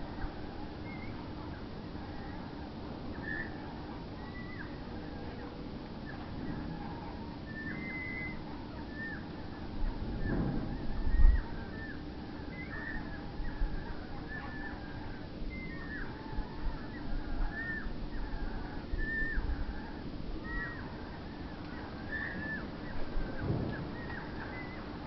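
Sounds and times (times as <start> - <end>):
nestlings begging calls: 0.1 - 5.4, 6.0 - 25.0.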